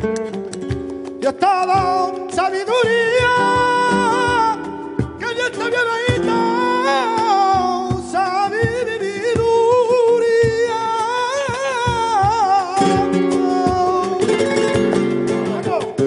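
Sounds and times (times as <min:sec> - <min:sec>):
flamenco guitar: 0:00.0 - 0:16.0.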